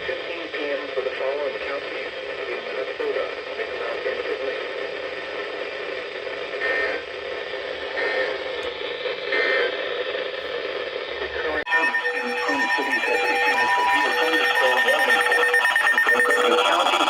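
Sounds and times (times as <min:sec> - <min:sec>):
radio static hiss and crackle: 0:00.0 - 0:17.0.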